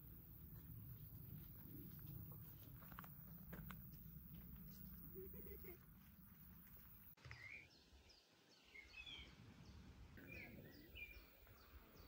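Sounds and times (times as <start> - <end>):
faint birds chirping: 0.0 - 12.0
outdoor background noise: 0.0 - 12.0.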